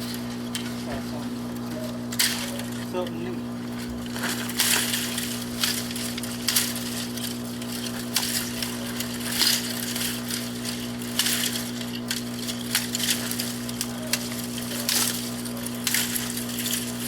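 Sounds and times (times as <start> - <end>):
yard tool scraping ground debris: 0.0 - 17.0.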